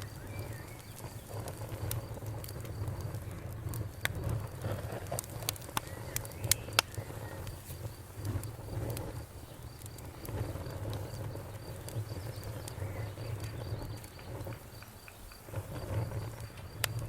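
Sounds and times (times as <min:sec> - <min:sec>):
crickets chirping: 0:00.0 - 0:17.0
wood fire crackling and popping: 0:00.0 - 0:17.0.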